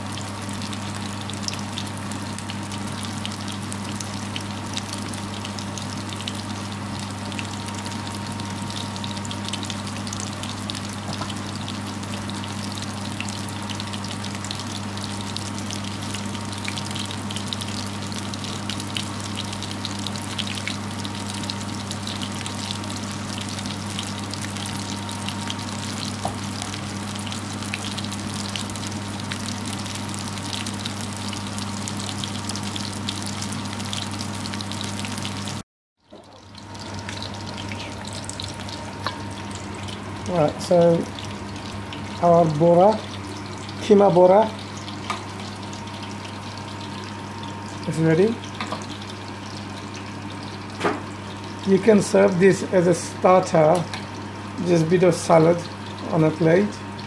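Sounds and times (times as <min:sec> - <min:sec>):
oil sizzling in a pan: 0:00.0 - 0:57.0.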